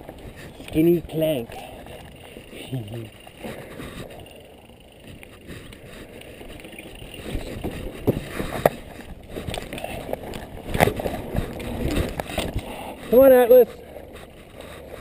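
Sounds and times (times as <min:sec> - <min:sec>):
bike tyre and rattle noise: 0:00.0 - 0:15.0.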